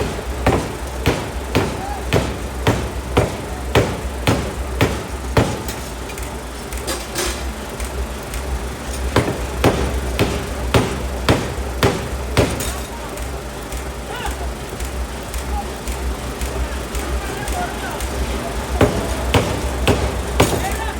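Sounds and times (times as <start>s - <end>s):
forging hammer blows: 0.0s - 7.5s, 8.3s - 20.9s
low machine hum: 0.0s - 20.9s.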